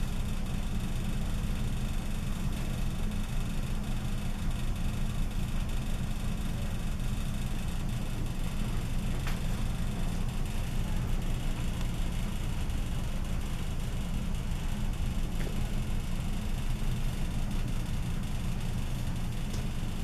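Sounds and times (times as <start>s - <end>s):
low hum with faint hiss: 0.0s - 20.0s.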